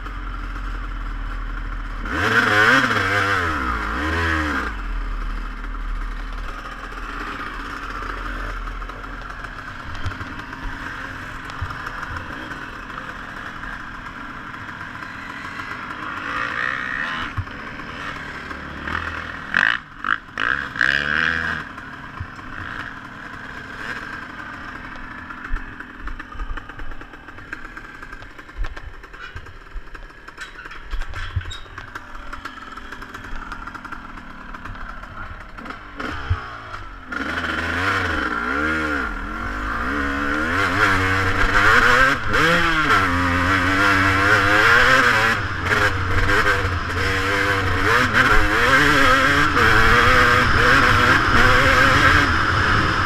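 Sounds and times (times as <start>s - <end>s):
dirt bike engine idling: 0.0s - 53.0s.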